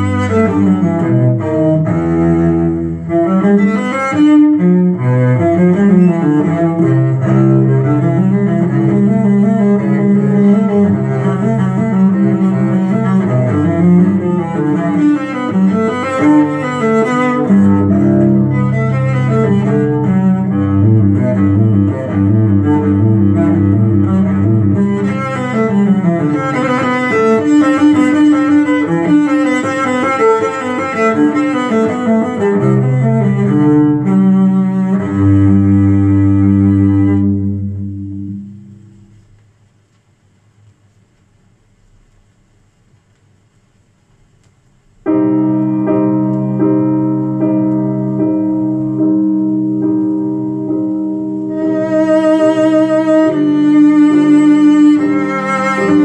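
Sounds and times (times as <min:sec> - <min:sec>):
slow low cello music: 0:00.0 - 0:39.4, 0:45.1 - 0:56.0.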